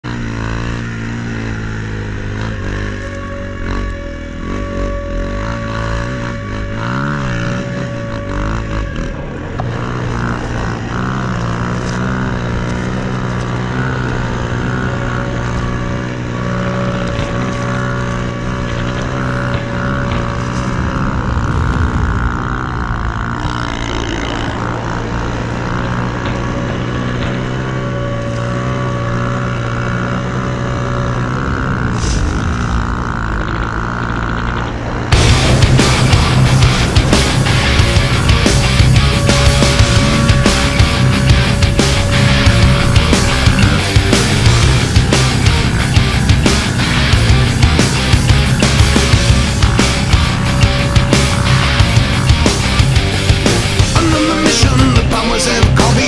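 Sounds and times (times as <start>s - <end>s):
snow bike engine running: 0.0s - 56.0s.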